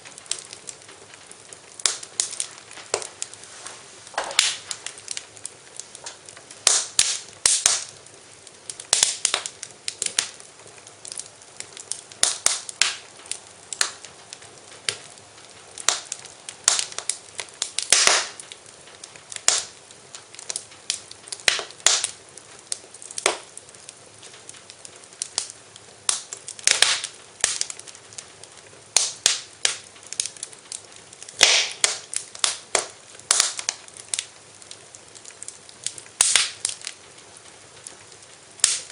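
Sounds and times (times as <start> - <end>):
faint steady hiss: 0.0 - 38.9
wood fire crackling and popping: 0.0 - 38.9.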